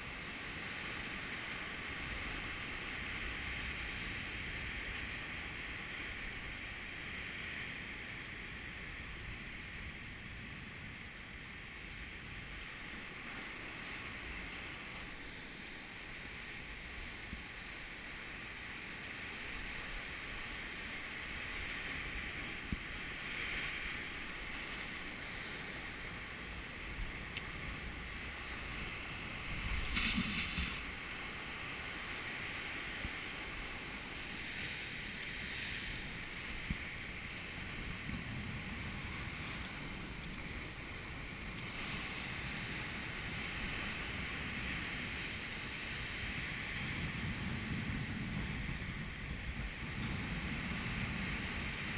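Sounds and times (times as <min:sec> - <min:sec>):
sea surf washing over rocks: 0:00.0 - 0:51.9
wind on the microphone: 0:00.0 - 0:51.9.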